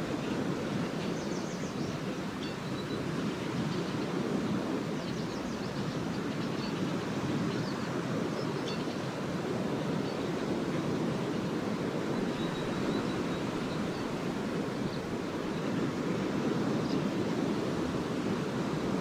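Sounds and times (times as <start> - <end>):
lake waves washing onto sand: 0.0 - 19.0.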